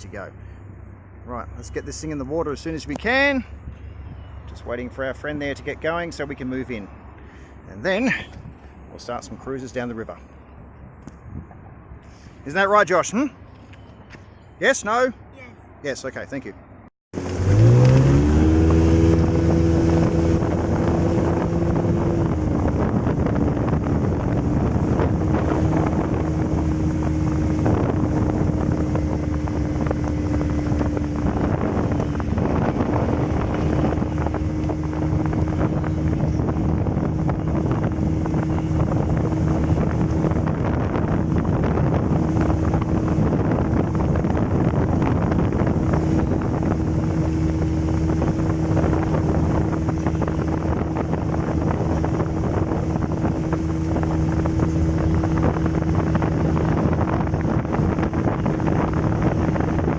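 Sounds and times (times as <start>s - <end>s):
motorboat engine running: 0.0s - 9.4s, 17.1s - 59.9s
wind buffeting microphone: 0.0s - 14.6s, 17.2s - 59.9s.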